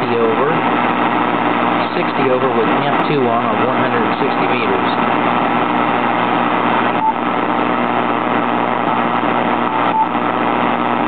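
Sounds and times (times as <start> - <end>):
radio buzz of hum tones: 0.0 - 11.0
radio hiss: 0.0 - 11.0.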